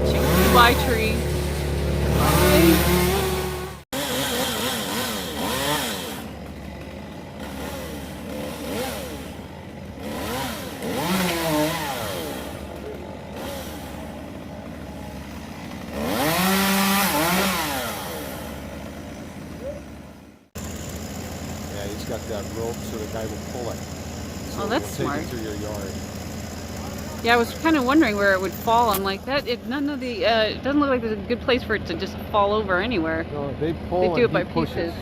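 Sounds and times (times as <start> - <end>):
chainsaw revving while cutting: 0.0 - 20.0, 20.6 - 29.4.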